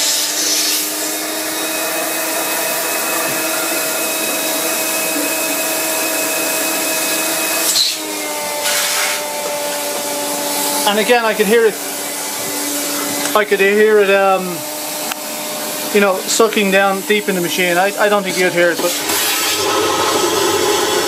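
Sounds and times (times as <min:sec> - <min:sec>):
wet-and-dry vacuum cleaner running: 0:00.0 - 0:21.0.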